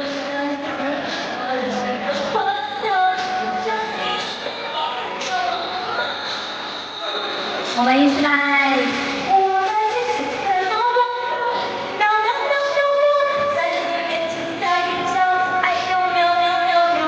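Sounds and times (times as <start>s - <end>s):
woman singing: 0.0s - 6.1s, 7.8s - 17.0s.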